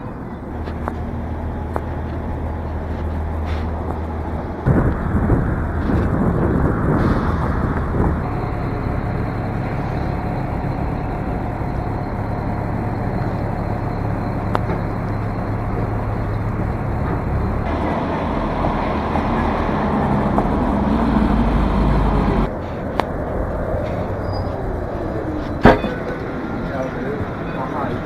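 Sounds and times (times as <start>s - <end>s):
rush of traffic noise: 0.0s - 28.0s
steady low hum: 0.0s - 28.0s
vehicles passing: 0.0s - 28.0s.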